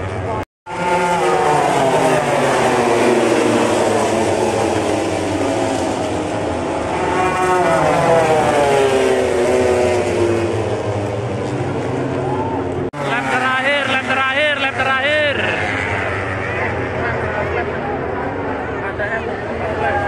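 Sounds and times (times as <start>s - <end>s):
racing motorcycles passing: 0.0s - 20.0s.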